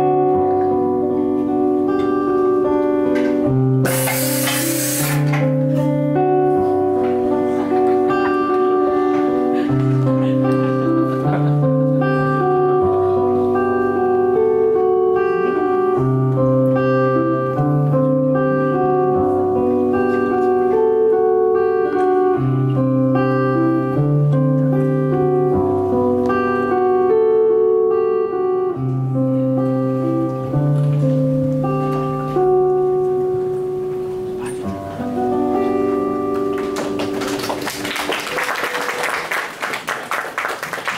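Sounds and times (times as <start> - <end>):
acoustic guitar playing chords: 0.0 - 38.2.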